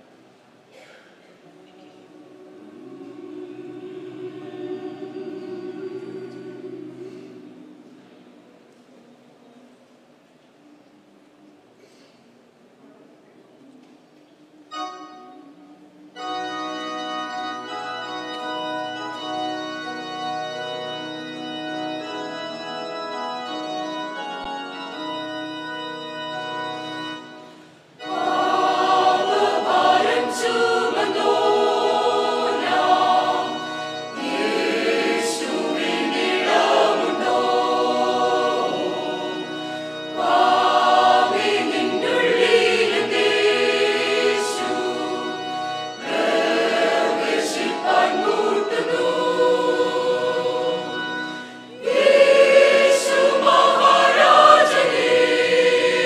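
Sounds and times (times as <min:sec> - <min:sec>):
choir singing a hymn: 0:00.0 - 0:08.7, 0:14.6 - 0:56.0.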